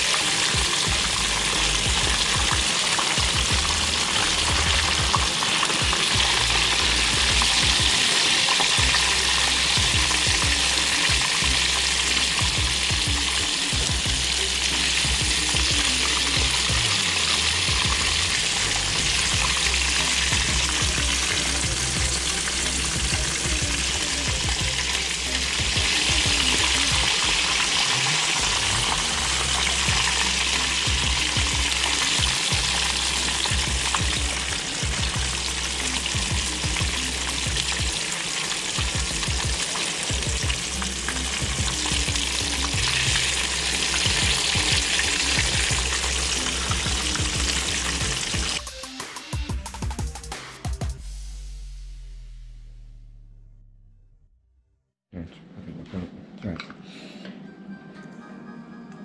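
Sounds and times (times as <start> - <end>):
fish frying in hot oil: 0.0 - 48.6.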